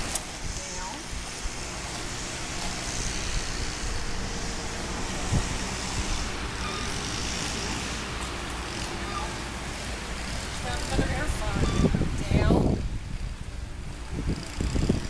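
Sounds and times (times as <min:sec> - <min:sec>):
continuous hiss: 0:00.0 - 0:15.0.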